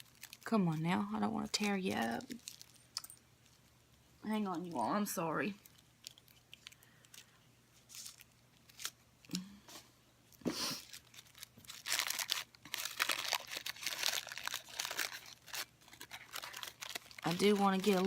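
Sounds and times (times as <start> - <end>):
packaging crinkling and rustling: 0.0 - 3.8, 5.6 - 9.3, 10.8 - 18.0.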